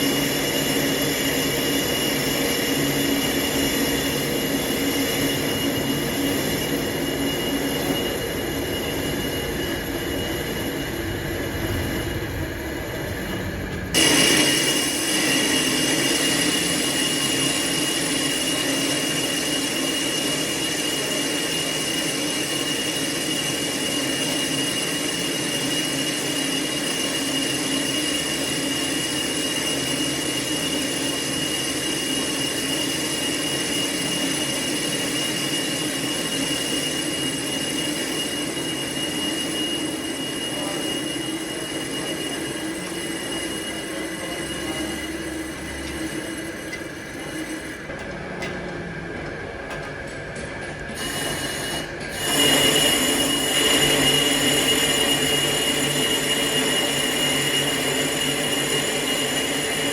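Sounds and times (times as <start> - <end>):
high-pitched metallic cutting whine: 0.0 - 59.9
metal lathe running: 0.0 - 59.9.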